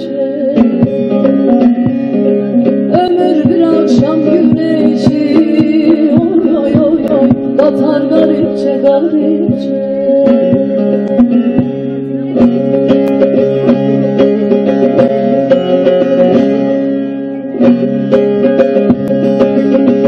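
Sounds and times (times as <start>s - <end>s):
long-necked lute plucked solo: 0.0s - 20.0s.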